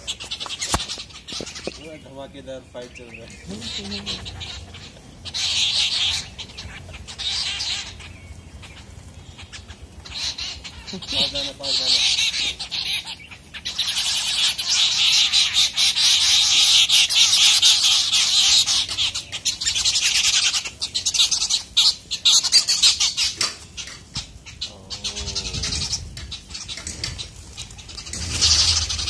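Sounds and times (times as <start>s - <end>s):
birds squawking and chattering: 0.0s - 29.0s.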